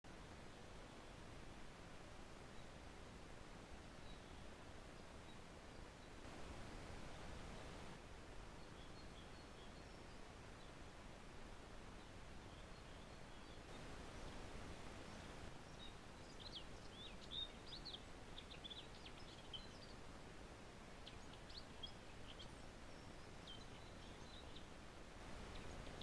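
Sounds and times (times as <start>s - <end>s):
steady background hiss: 0.1s - 26.0s
small birds chirping: 3.8s - 10.9s, 11.8s - 26.0s.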